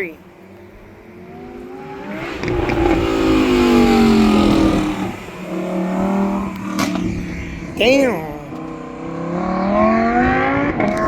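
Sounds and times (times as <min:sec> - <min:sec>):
car engine driving by: 0:00.2 - 0:11.0.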